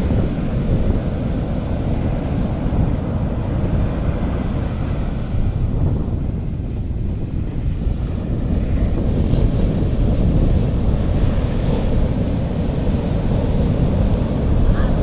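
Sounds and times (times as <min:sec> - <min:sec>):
sea waves washing onto beach: 0:00.0 - 0:15.0
wind rumbling against microphone: 0:00.0 - 0:15.0.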